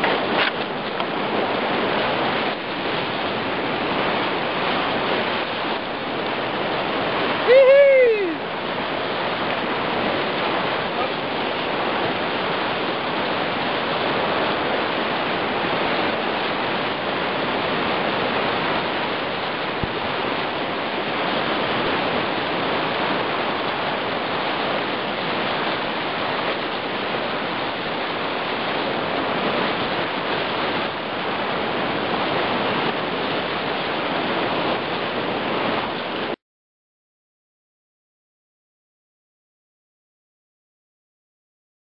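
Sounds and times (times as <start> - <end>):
churning white water rushing: 0.0 - 36.4.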